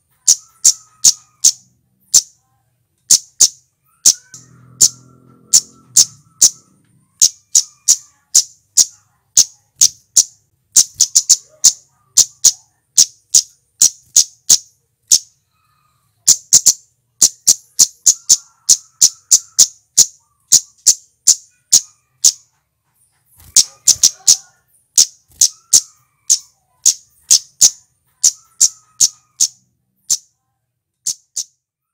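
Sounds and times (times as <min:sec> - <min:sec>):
bird high chip calls: 0:00.0 - 0:02.4, 0:03.1 - 0:22.5, 0:23.3 - 0:30.4, 0:31.0 - 0:31.7.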